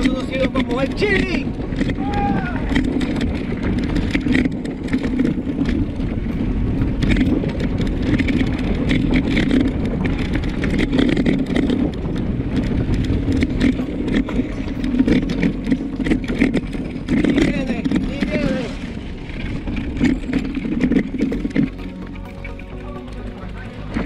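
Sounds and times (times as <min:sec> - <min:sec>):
bike rattling and clicking: 0:00.0 - 0:24.0
tyres rumbling on dirt and gravel: 0:00.0 - 0:24.0.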